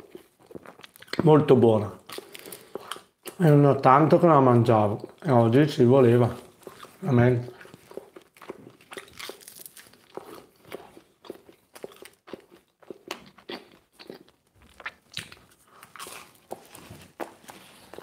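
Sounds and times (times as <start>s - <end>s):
chewing crunchy pizza crust: 0.0s - 3.6s, 6.1s - 18.0s.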